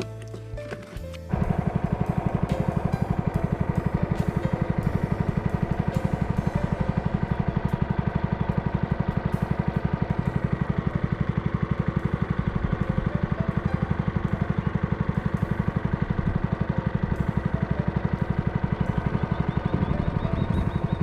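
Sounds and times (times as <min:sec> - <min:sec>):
boat engine chugging: 0:00.0 - 0:21.0.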